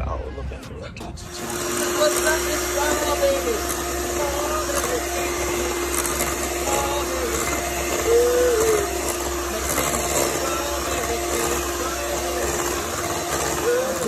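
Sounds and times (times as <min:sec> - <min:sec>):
electric hand mixer running: 0:01.2 - 0:14.0.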